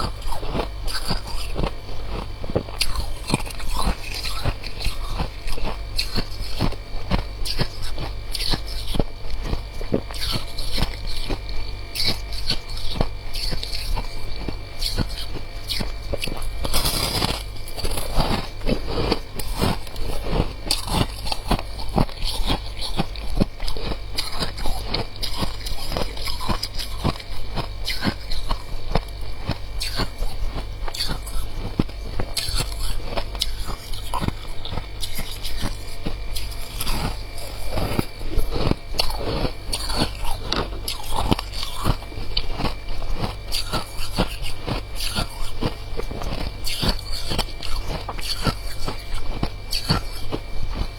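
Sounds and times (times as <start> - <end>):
chewing frost crunches: 0.0 - 50.9.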